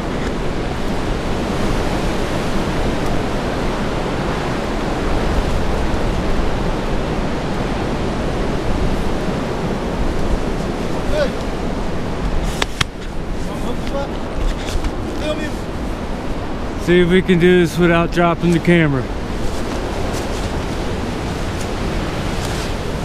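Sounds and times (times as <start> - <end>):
strong wind blasting microphone: 0.0 - 23.0.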